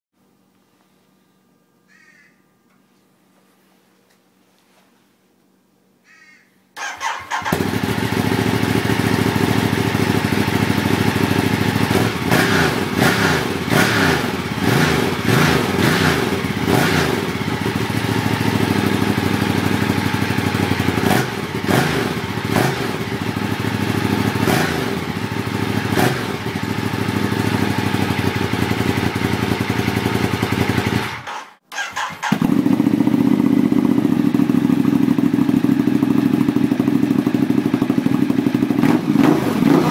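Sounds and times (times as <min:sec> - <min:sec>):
motorcycle engine idling: 0:06.9 - 0:39.9.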